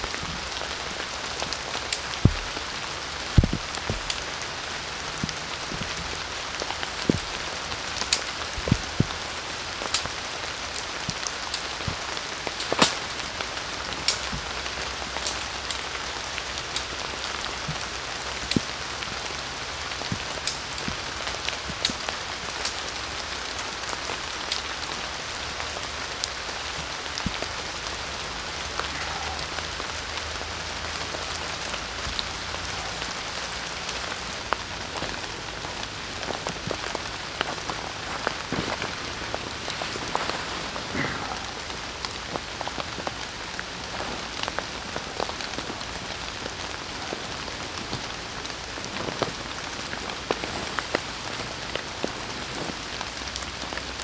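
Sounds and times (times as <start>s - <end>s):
close raindrops striking: 0.0s - 54.0s
steady rain in forest: 0.0s - 54.0s.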